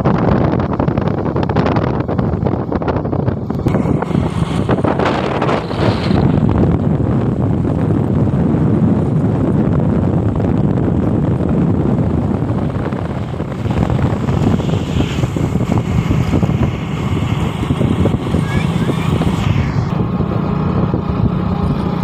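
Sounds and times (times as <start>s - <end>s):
wind buffeting microphone: 0.0s - 22.0s
motorcycle engine running: 3.3s - 22.0s.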